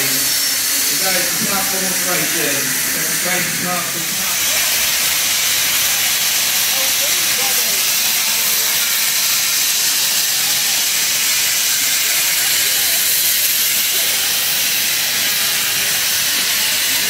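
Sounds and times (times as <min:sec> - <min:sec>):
steam hissing loudly: 0:00.0 - 0:17.0.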